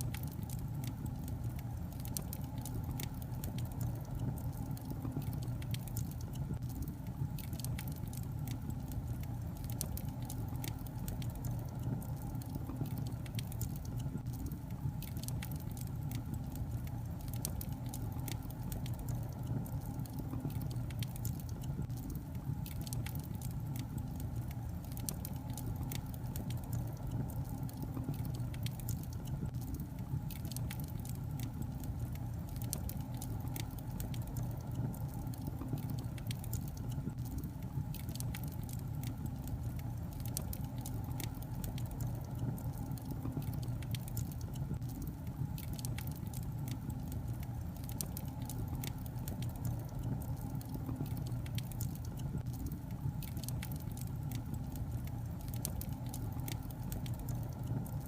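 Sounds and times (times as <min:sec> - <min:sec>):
fire crackling and snapping: 0:00.0 - 0:58.0
low hum of fire: 0:00.0 - 0:58.0.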